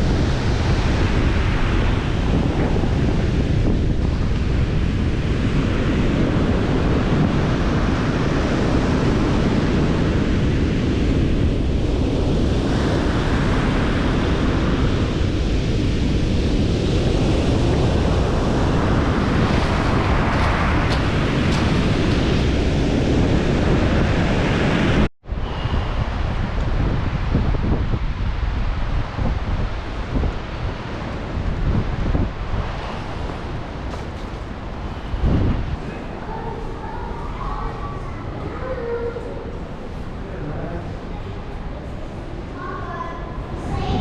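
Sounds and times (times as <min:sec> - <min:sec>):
sea surf washing: 0:00.0 - 0:44.0
wind buffeting microphone: 0:00.0 - 0:44.0.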